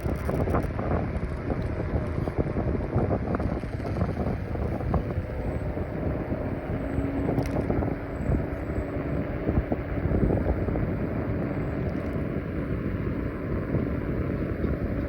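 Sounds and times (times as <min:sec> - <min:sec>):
scooter tyre road rumble: 0:00.0 - 0:15.0
wind buffeting microphone: 0:00.0 - 0:15.0.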